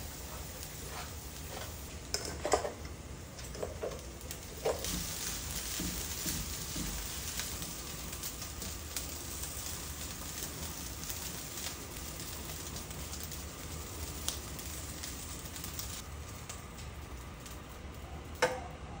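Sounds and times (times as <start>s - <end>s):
rice sizzling in a pan: 0.0s - 18.0s.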